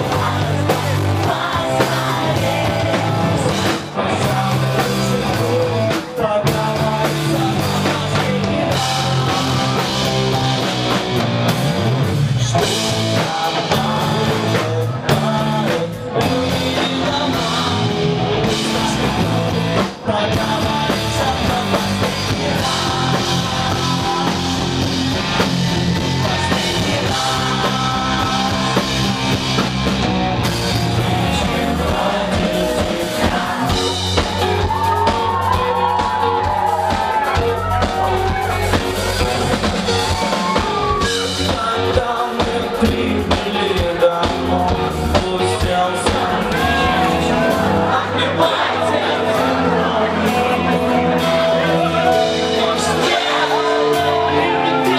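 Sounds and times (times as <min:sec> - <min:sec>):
drum kit: 0:00.0 - 0:54.9
electric guitar: 0:00.0 - 0:54.9
man singing lead vocal: 0:00.0 - 0:54.9.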